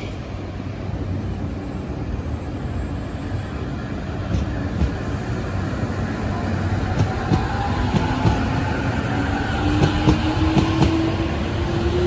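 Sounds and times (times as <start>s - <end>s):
train rail rumble: 0.0s - 12.0s.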